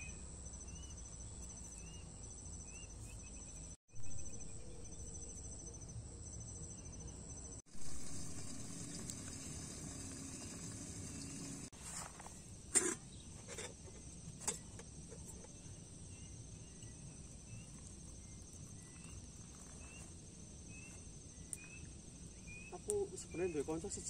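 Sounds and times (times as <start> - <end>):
insects chirring: 0.0 - 11.7, 13.0 - 24.0.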